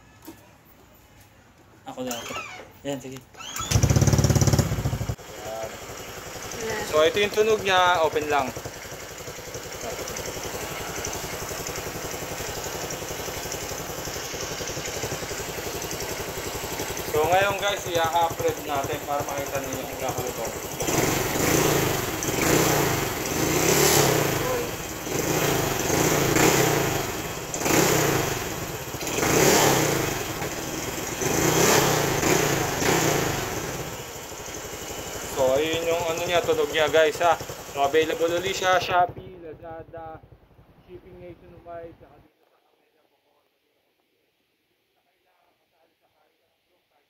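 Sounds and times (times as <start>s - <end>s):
scooter engine idling: 3.4s - 42.1s.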